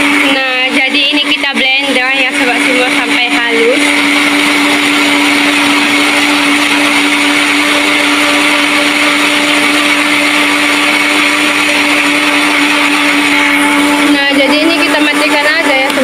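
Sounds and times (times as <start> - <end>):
blender running: 0.0 - 16.0.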